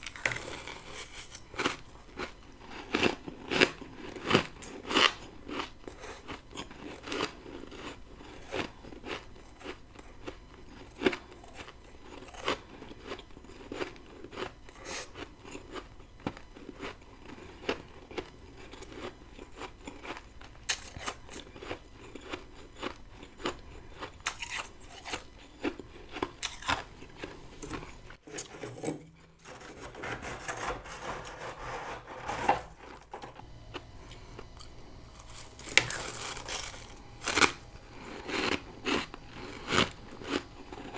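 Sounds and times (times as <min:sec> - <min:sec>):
chewing crunchy frost: 0:00.0 - 0:28.7, 0:32.8 - 0:40.9.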